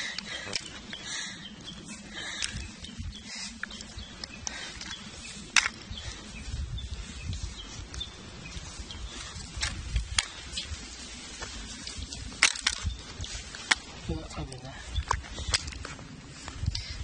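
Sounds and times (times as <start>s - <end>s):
jacket fabric rustling on microphone: 0.0s - 17.0s.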